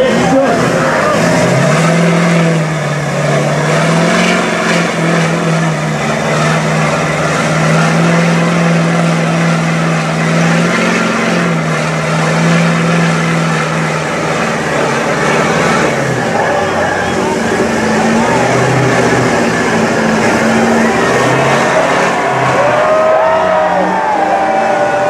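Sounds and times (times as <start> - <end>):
truck engine running hard: 0.0 - 25.0.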